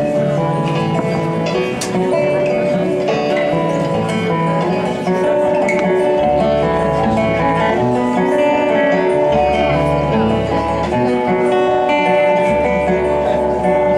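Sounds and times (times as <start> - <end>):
acoustic guitar picking: 0.0 - 13.9.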